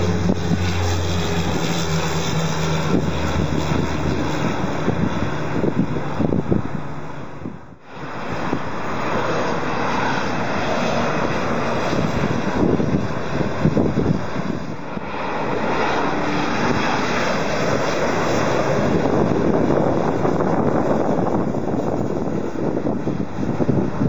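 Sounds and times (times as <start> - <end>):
loud jet engine noise: 0.0 - 24.0.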